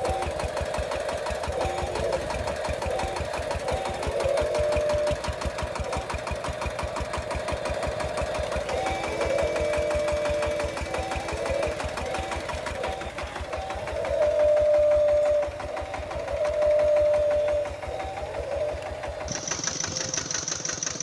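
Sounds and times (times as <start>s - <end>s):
motor whine: 0.0s - 21.0s
small electric motors clattering: 0.0s - 21.0s.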